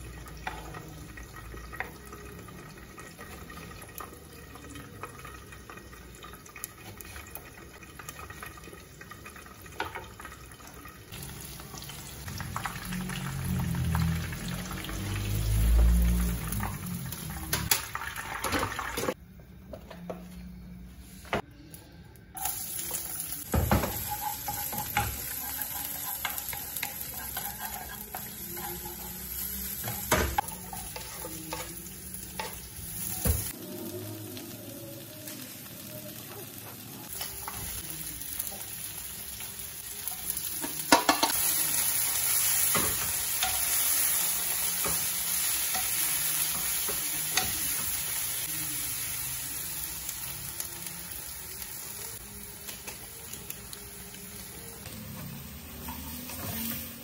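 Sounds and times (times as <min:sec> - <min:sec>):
oil sizzling in a wok: 0:00.0 - 0:19.2, 0:22.2 - 0:57.0.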